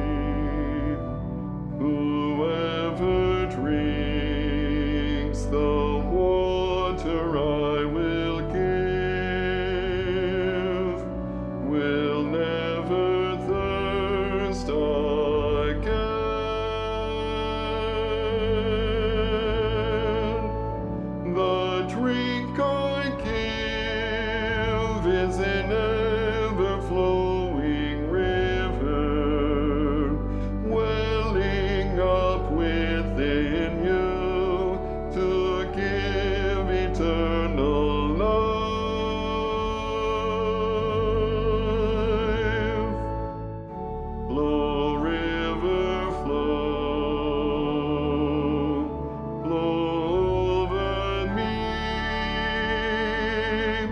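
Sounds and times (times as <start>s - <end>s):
low accompaniment chords: 0.0s - 53.9s
soprano singing a hymn: 0.0s - 53.9s.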